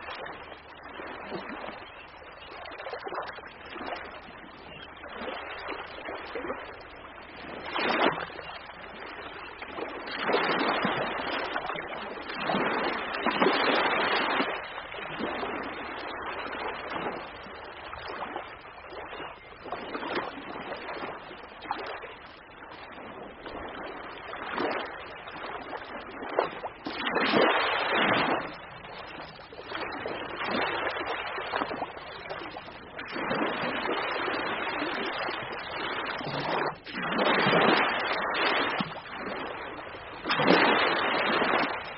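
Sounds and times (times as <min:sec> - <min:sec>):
ocean waves washing on shore: 0:00.0 - 0:41.9.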